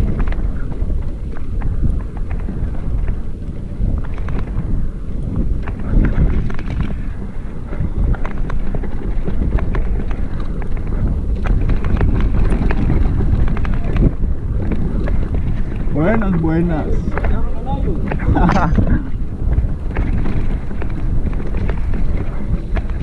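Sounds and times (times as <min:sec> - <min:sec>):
bike rattling and knocking: 0:00.0 - 0:23.0
wind rumble on microphone: 0:00.0 - 0:23.0.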